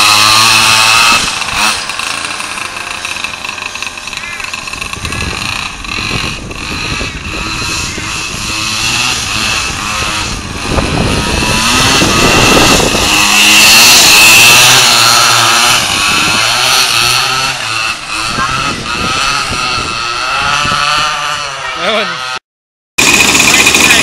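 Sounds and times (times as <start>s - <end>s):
small two-stroke engine buzzing: 0.0s - 22.4s, 23.0s - 24.0s.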